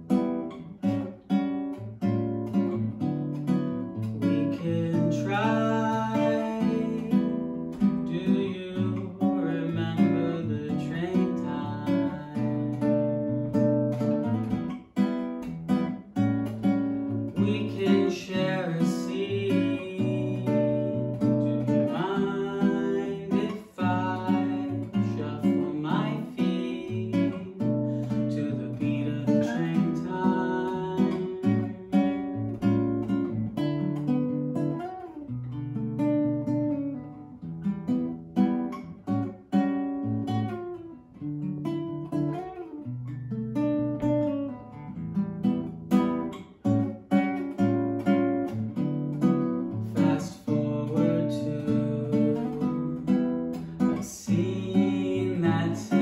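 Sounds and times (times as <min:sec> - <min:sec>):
classical guitar bossa nova: 0:00.0 - 0:56.0.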